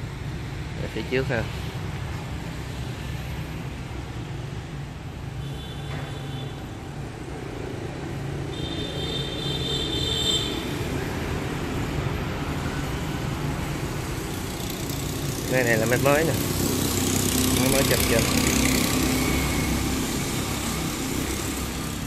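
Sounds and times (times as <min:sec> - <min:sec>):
engines and traffic rumble: 0:00.0 - 0:22.0.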